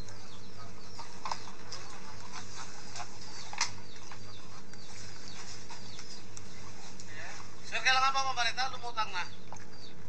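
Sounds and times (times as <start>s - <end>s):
birds chirping: 0.0s - 10.0s
steady low hum: 0.0s - 10.0s.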